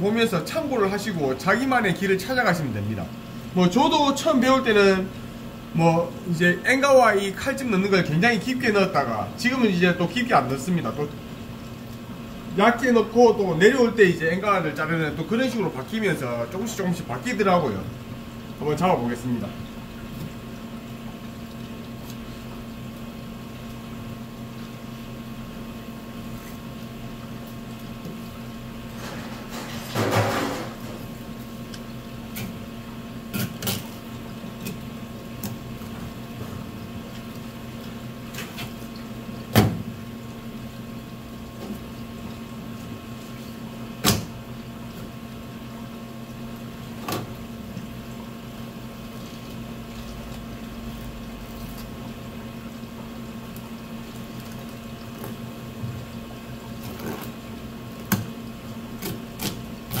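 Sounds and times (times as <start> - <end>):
electrical hum: 0.0 - 60.0.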